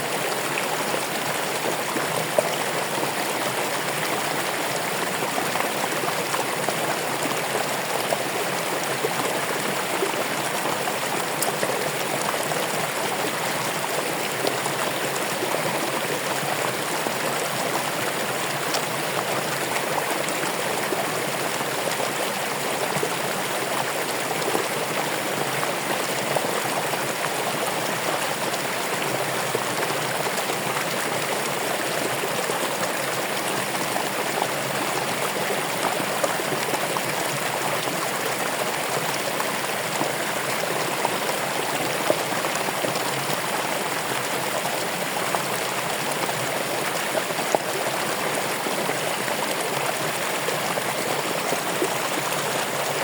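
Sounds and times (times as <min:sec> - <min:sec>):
running water: 0:00.0 - 0:53.0.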